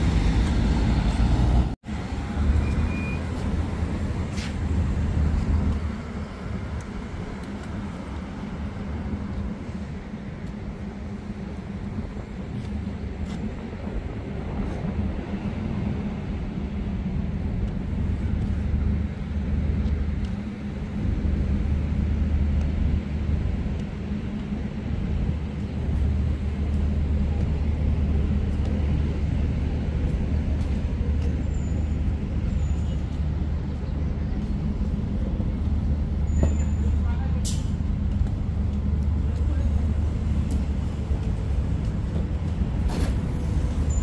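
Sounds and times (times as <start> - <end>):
city street traffic rumble: 0.0 - 44.0.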